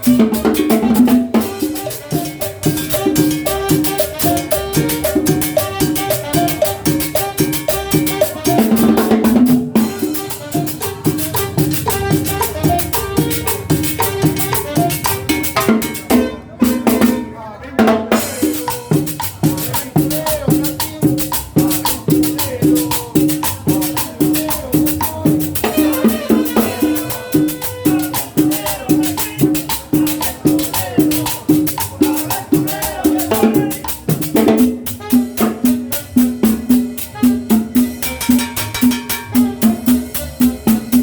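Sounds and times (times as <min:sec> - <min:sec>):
shaker and hand percussion: 0:00.0 - 0:16.2, 0:18.2 - 0:41.0.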